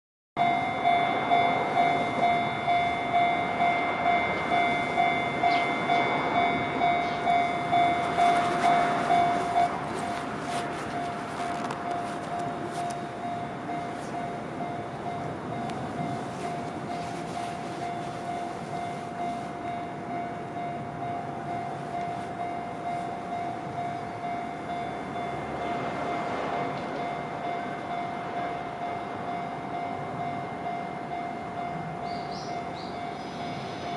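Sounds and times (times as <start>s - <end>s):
level crossing bell ringing: 0.4s - 33.7s
train running past: 0.4s - 33.9s.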